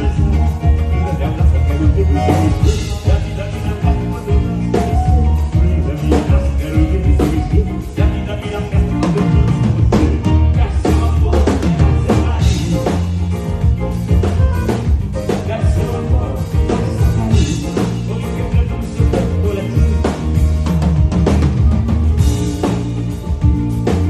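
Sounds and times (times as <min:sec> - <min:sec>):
bass line: 0:00.0 - 0:24.0
drum kit steady beat: 0:00.0 - 0:24.0
live band playing: 0:00.0 - 0:24.0.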